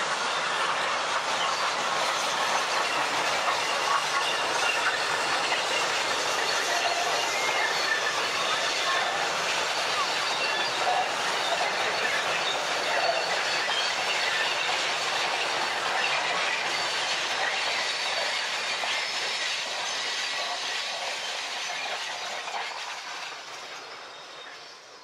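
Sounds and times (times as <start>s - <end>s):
train wheels rolling on rails: 0.0s - 25.0s
faint high wheel squeal: 0.3s - 25.0s.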